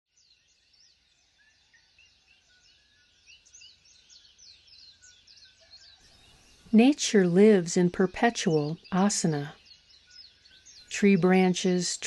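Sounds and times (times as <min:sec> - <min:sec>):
faint birds chirping: 0:00.1 - 0:12.0.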